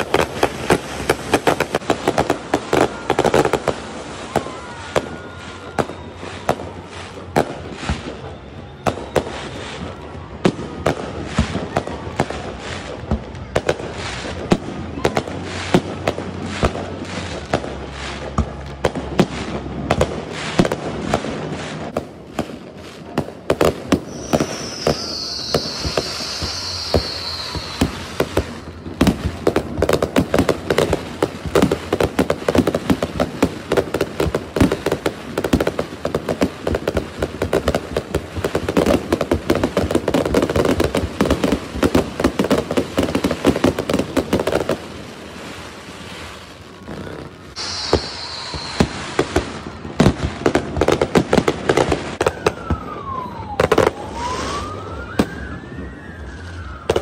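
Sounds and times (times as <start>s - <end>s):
high firework hiss: 0.0s - 8.4s, 11.1s - 52.2s
fireworks bangs and crackling: 0.0s - 57.0s.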